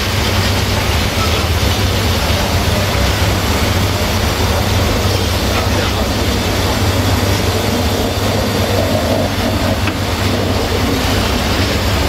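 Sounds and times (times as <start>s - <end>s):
diesel locomotive engine rumble: 0.0s - 12.0s
freight wagons rolling on rails: 0.0s - 12.0s.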